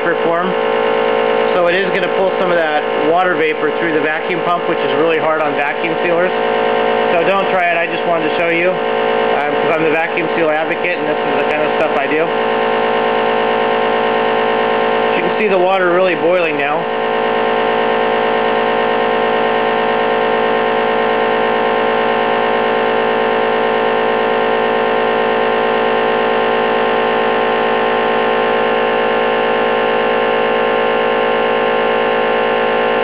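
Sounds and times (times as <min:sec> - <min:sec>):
vacuum pump running: 0:00.0 - 0:33.0.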